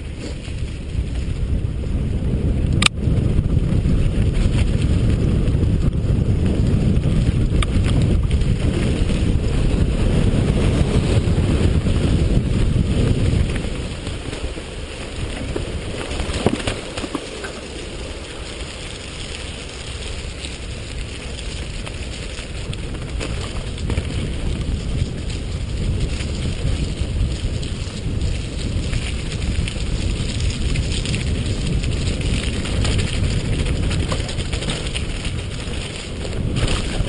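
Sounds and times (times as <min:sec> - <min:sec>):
tyres rumbling on dirt trail: 0:00.0 - 0:37.0
wind buffeting microphone: 0:00.0 - 0:37.0.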